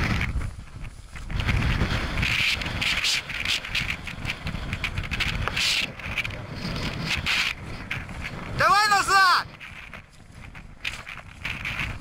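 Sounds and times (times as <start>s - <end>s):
rustling through dry tall grass: 0.0s - 12.0s
wind rumble on microphone: 0.0s - 12.0s.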